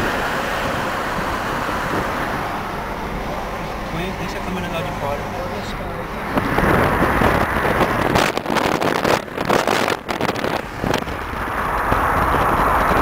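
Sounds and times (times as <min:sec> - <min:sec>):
car engines passing: 0:00.0 - 0:13.0
wind buffeting microphone: 0:00.0 - 0:13.0.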